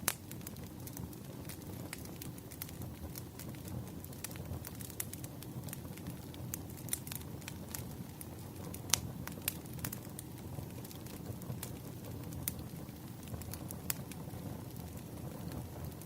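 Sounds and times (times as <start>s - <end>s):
low rumble of burning logs: 0.0s - 16.0s
wood fire crackling: 0.0s - 16.0s.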